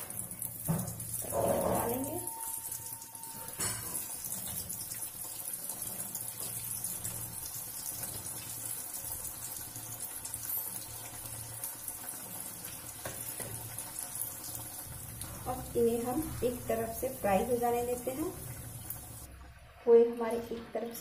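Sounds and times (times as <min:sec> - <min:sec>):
food deep-frying in oil: 0:00.0 - 0:21.0.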